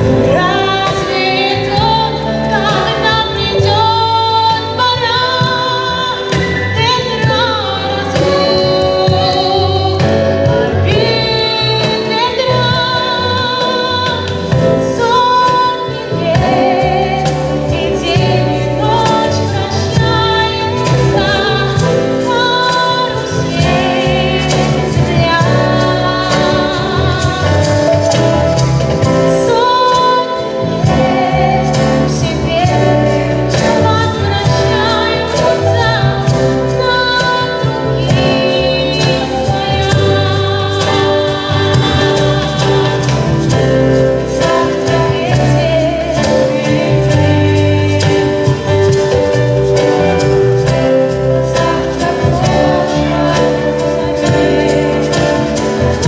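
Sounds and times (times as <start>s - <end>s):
instrumental music with beat: 0.0s - 56.0s
woman singing with vibrato: 0.0s - 56.0s.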